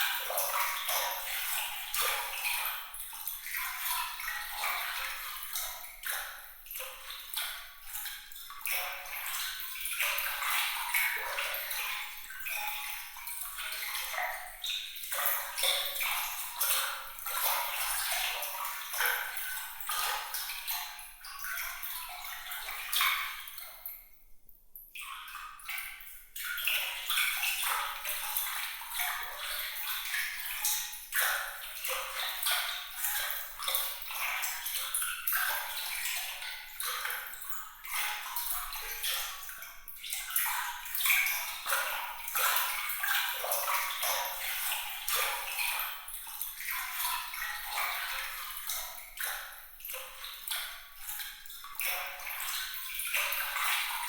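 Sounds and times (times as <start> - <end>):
water trickling and splashing: 0.0 - 24.2, 24.8 - 54.0.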